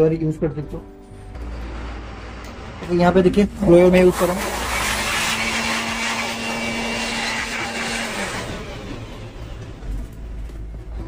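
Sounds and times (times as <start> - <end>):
low motor hum: 0.6 - 11.0
electric air blower rushing: 1.1 - 11.0.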